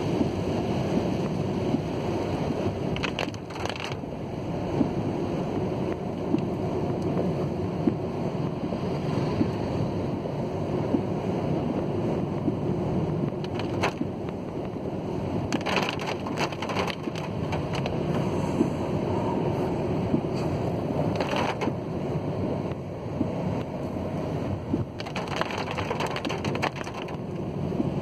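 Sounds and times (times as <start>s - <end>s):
rain on car: 0.0s - 28.0s
tyres on wet road: 0.0s - 28.0s.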